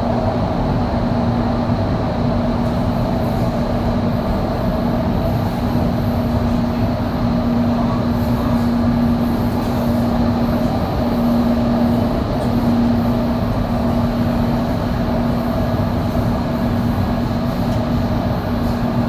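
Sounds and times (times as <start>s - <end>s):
constant hum: 0.0s - 19.0s
train rumbling: 0.0s - 19.0s.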